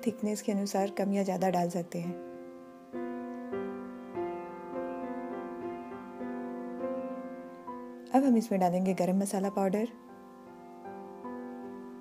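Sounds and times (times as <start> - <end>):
slow keyboard music: 0.0 - 12.0.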